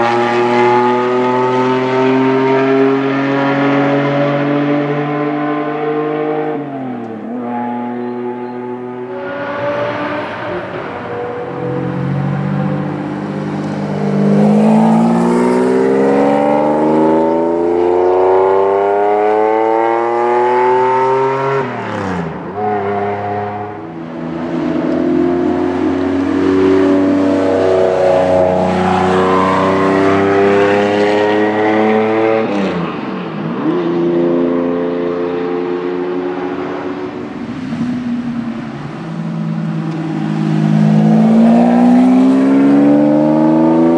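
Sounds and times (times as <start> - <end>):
car engine accelerating hard: 0.0 - 22.4, 24.4 - 32.8, 33.6 - 43.9.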